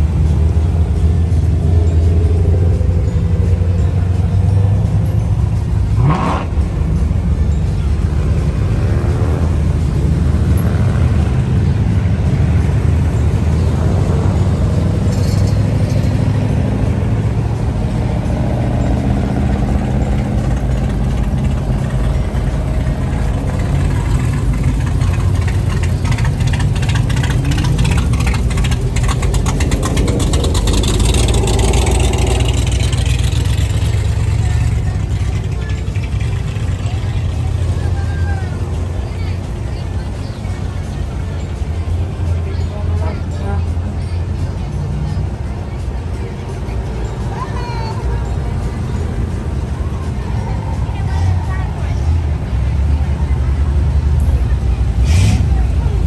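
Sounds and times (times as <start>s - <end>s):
car engines passing: 0.0s - 56.0s
engine revving: 0.0s - 56.0s.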